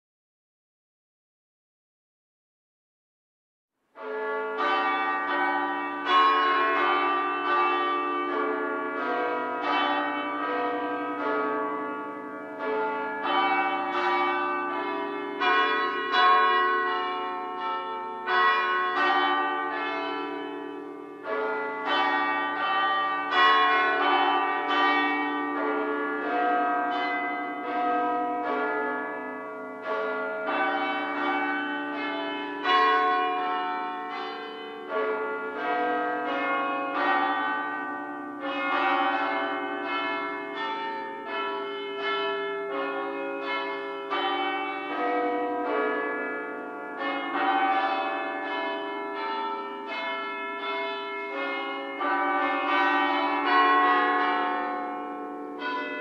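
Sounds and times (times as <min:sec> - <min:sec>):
church bells ringing: 0:04.0 - 0:56.0.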